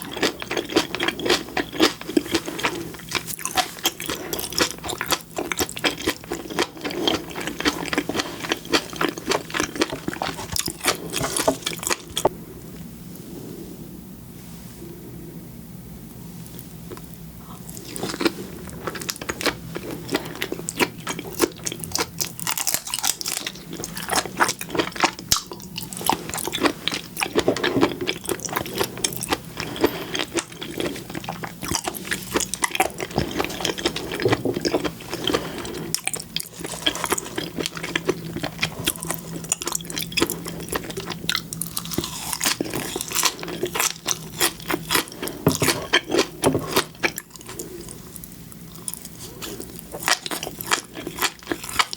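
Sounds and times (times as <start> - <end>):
chewing crunchy seafood: 0.0 - 12.3, 16.9 - 51.9.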